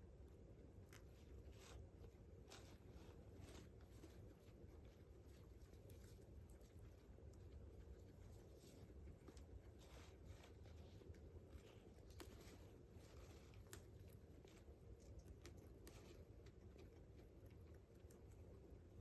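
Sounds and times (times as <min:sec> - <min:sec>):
guinea pigs chewing hay: 0:00.0 - 0:19.0
low steady hum: 0:00.0 - 0:19.0.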